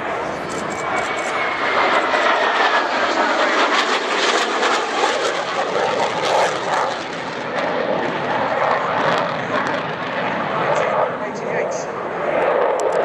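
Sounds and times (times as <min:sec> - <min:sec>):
jet engines roaring in flight: 0:00.0 - 0:13.0.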